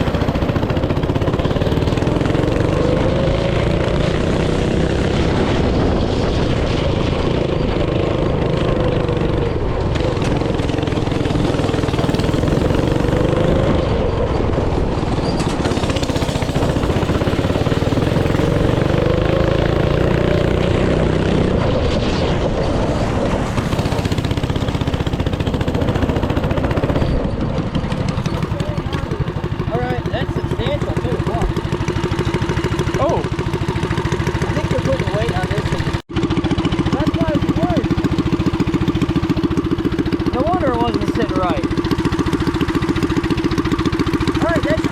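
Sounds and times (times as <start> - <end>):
small engine running hard: 0.0 - 44.9.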